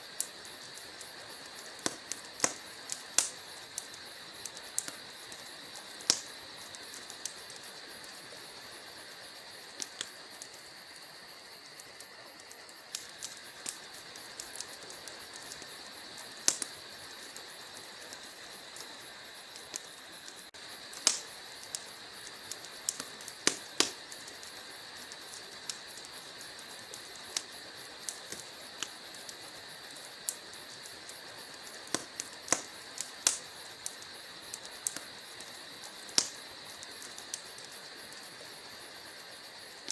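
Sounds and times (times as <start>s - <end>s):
logs crackling and popping in fireplace: 0.0s - 39.9s.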